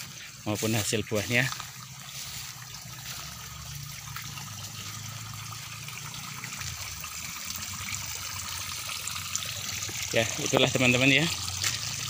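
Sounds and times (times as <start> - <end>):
water pouring from a pipe: 0.0 - 12.0
water trickling along a ditch: 0.0 - 12.0.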